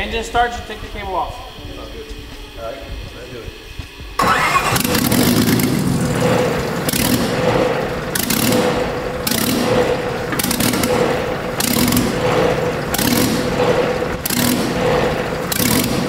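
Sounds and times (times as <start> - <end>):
engine running roughly surging: 0.6 - 16.0.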